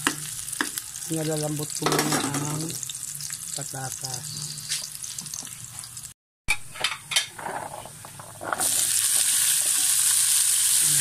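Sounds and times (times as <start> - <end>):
food sizzling in frying pan: 0.0 - 6.2, 8.2 - 11.0.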